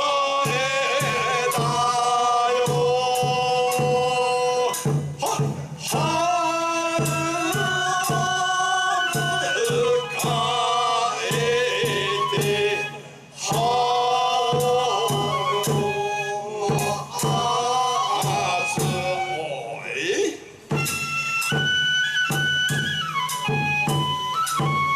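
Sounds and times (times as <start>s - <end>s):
struck percussion beats: 0.3s - 19.3s, 20.6s - 24.9s.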